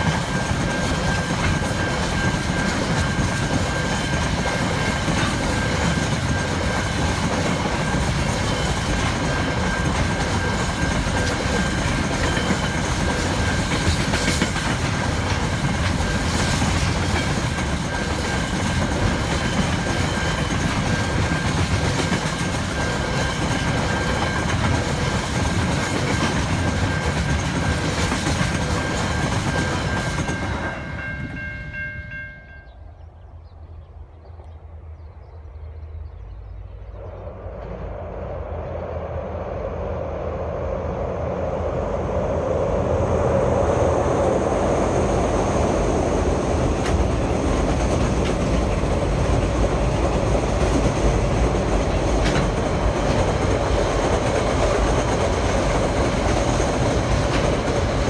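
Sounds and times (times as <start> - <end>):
train wheels rumbling and clacking: 0.0 - 33.1, 34.3 - 58.0.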